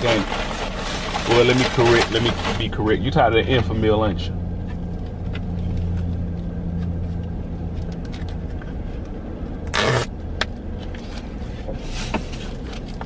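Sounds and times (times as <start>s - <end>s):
minivan engine idling: 0.0s - 13.0s.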